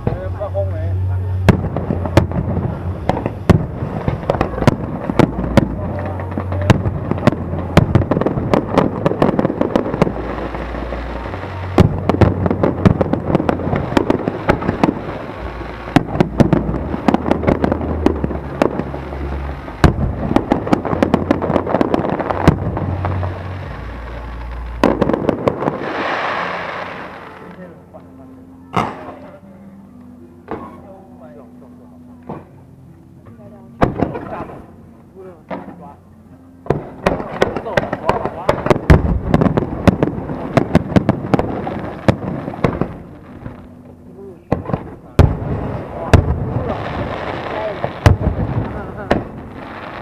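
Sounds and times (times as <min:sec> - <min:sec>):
heavy low rumble: 0:00.0 - 0:30.5, 0:31.1 - 0:50.0
fireworks cracks and bangs: 0:01.4 - 0:27.7, 0:33.8 - 0:34.7, 0:36.6 - 0:50.0.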